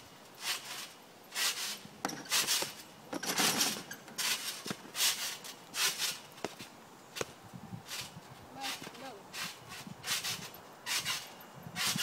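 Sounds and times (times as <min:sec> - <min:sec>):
trampoline springs creaking: 0:00.0 - 0:12.0.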